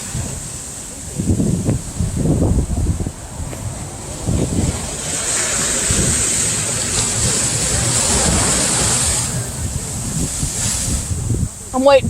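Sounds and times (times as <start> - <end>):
waves breaking: 0.0 - 12.0
wind buffeting microphone: 0.0 - 12.0.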